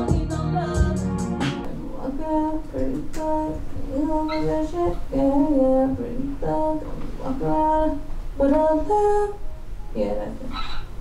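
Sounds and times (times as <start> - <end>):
woman singing wordless melody: 0.0 - 10.6.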